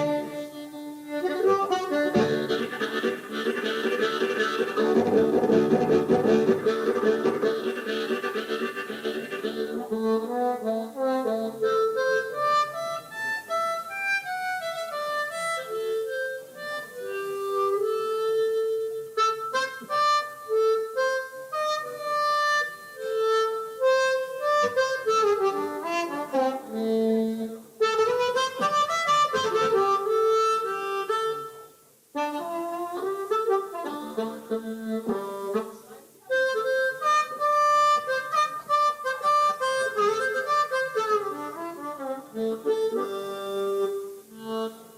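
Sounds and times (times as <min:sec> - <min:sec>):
blues harmonica solo: 0:00.0 - 0:44.9.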